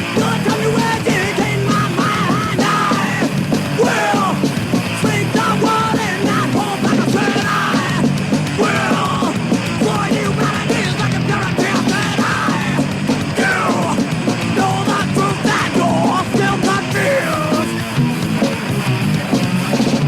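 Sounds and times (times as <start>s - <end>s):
shouted vocals: 0.0s - 17.8s
thrash metal band playing: 0.0s - 20.0s.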